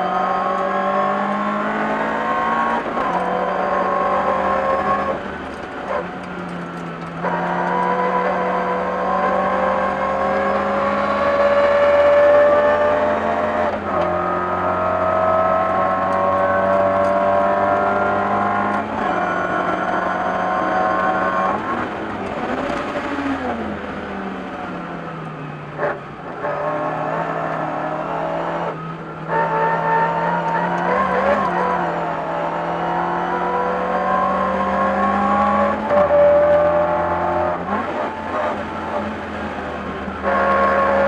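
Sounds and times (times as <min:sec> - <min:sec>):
race car engine at high revs: 0:00.0 - 0:41.0.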